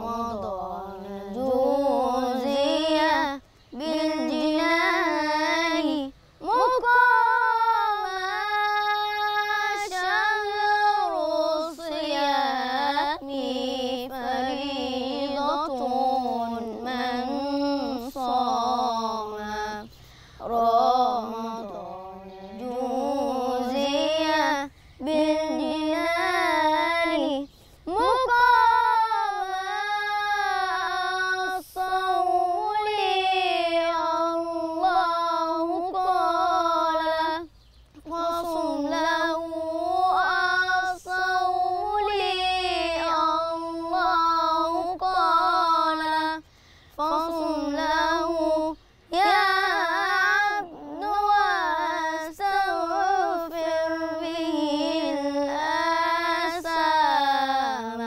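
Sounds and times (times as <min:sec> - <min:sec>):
boy chanting: 0:00.0 - 0:58.0.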